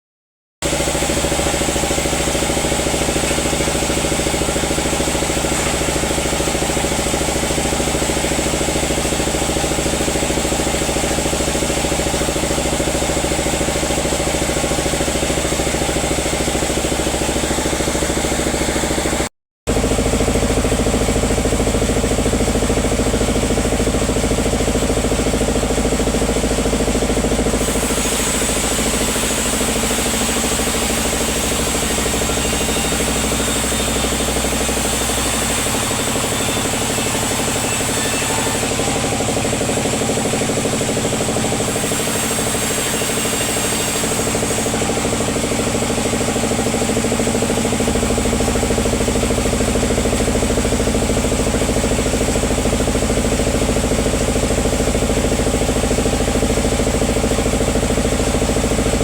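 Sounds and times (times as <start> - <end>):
sawmill machinery hum: 0.6 - 59.0.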